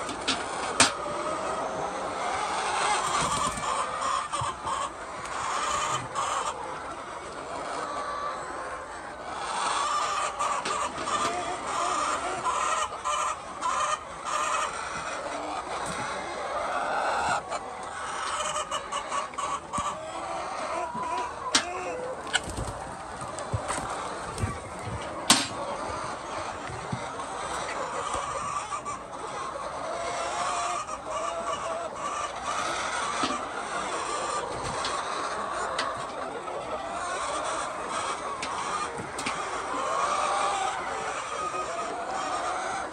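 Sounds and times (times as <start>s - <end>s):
hens clucking: 0.0s - 42.9s.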